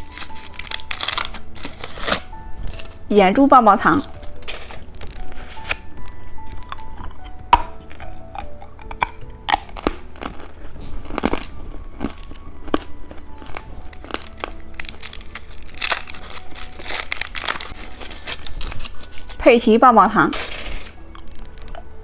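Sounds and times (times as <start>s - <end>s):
plastic packaging crinkling: 0.0s - 3.2s, 3.9s - 19.5s, 20.2s - 22.0s
soft background music: 0.0s - 22.0s.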